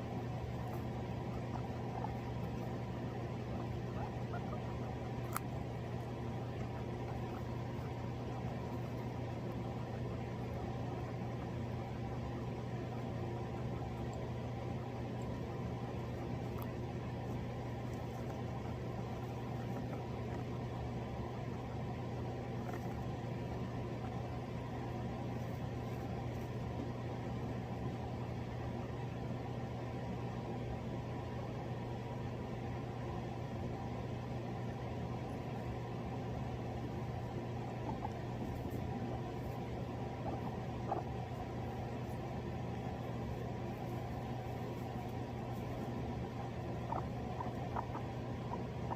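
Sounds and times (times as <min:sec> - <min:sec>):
mechanical hum with hiss: 0:00.0 - 0:48.9.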